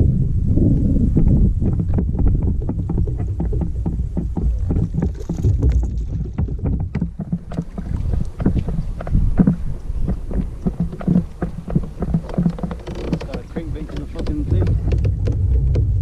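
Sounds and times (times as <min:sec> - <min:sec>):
wind rumble on microphone: 0:00.0 - 0:16.0
water knocking and splashing on hull: 0:01.1 - 0:16.0.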